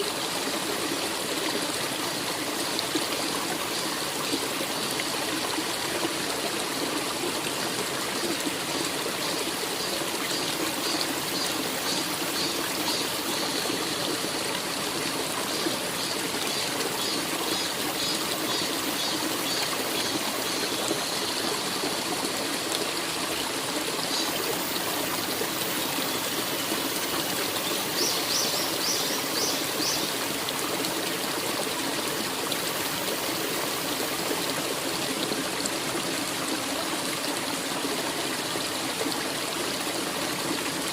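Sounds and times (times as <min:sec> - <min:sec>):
stream trickling: 0:00.0 - 0:40.9.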